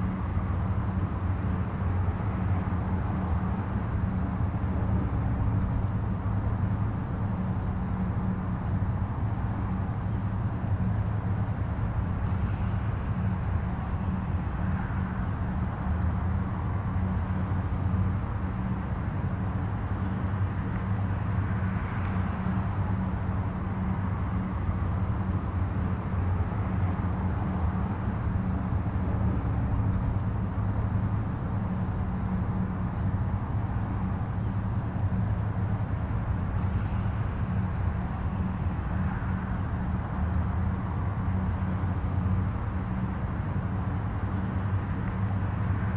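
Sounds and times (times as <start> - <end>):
distant highway traffic rumble: 0.0 - 45.9.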